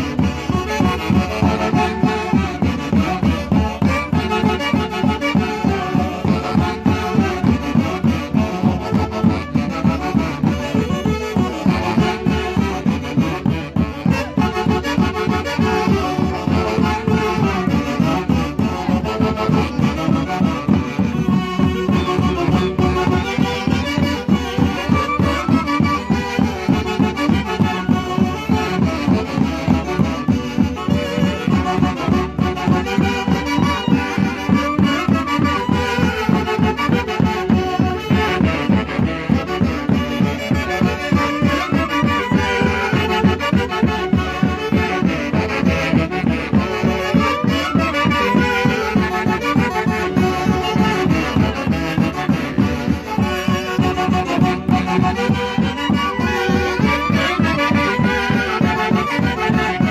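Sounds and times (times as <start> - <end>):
band of saxophones clarinets violins harp: 0.0 - 59.9.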